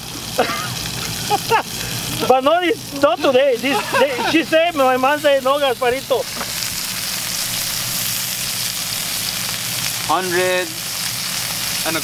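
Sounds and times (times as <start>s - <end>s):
steaks sizzling in a skillet: 0.0s - 12.0s.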